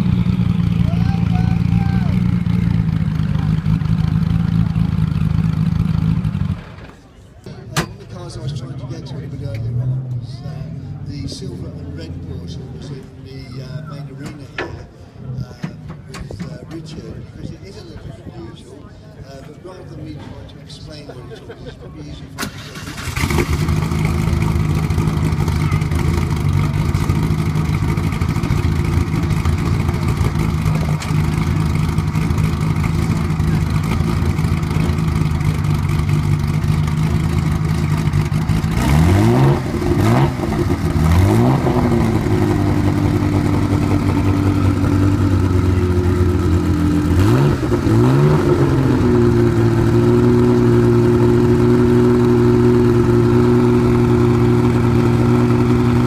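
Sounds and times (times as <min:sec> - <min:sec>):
car engine idling and revving: 0:00.0 - 0:07.1, 0:07.8 - 0:17.2, 0:22.4 - 0:56.0.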